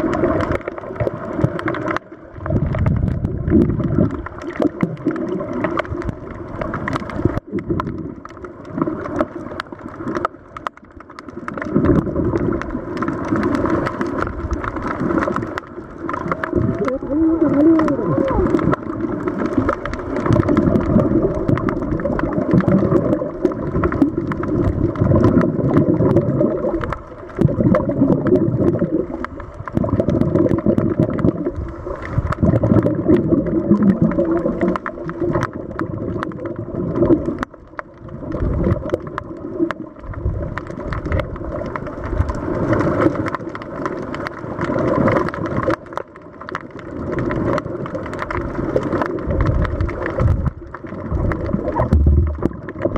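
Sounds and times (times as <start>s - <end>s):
underwater exhaust bubbles burbling: 0.0s - 52.9s.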